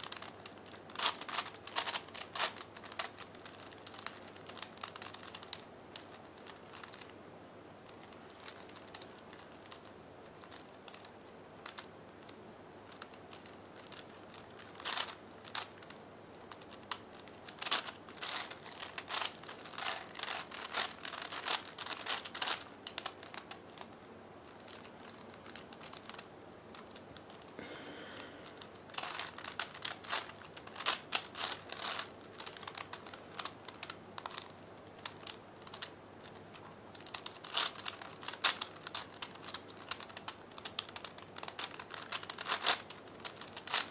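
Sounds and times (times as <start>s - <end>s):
puzzle cube clicking as turned: 0.0s - 7.2s, 7.9s - 23.9s, 24.5s - 27.6s, 28.5s - 43.9s.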